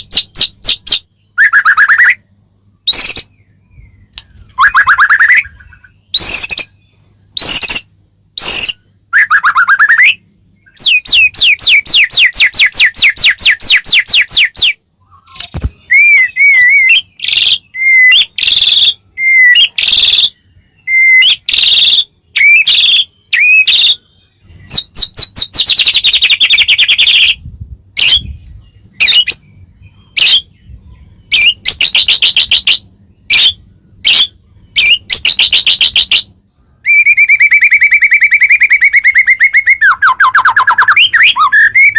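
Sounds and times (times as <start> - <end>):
songbird trilling and whistling: 0.0 - 41.9.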